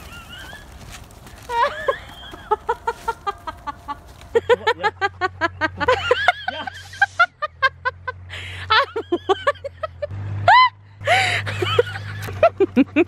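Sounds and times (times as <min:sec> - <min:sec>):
woman laughing hard: 0:01.5 - 0:13.0.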